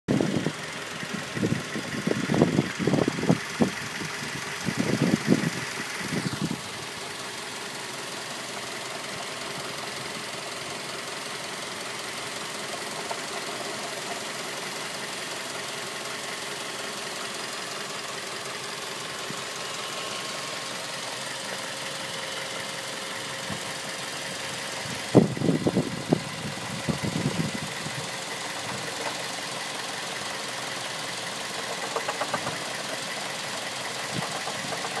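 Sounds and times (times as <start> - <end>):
car engine idling with knocking: 0.1 - 35.0.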